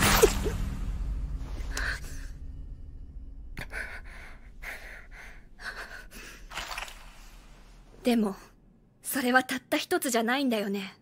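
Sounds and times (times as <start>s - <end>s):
low steady hum: 0.1s - 9.3s.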